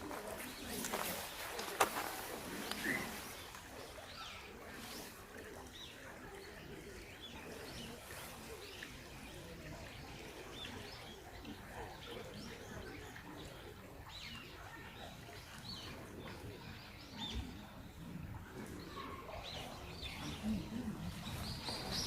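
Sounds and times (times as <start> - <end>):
faint outdoor background: 0.0 - 22.0
small birds chirping: 0.0 - 22.0.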